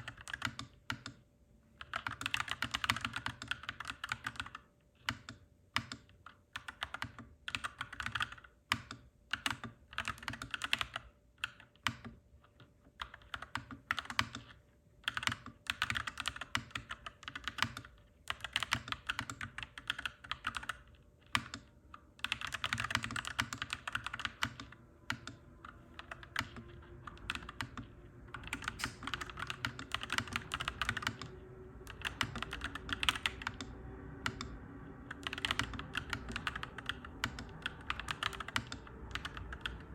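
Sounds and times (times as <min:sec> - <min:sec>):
mechanical keyboard typing: 0:00.0 - 0:01.2, 0:01.8 - 0:39.9.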